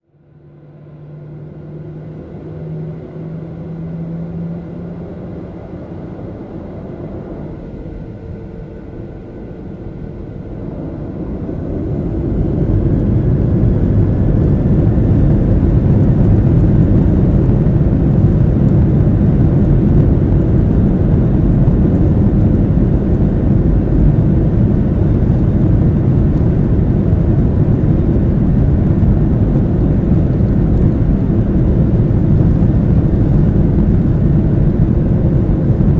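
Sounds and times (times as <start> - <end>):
airliner engines spooling up: 1.3 - 35.9.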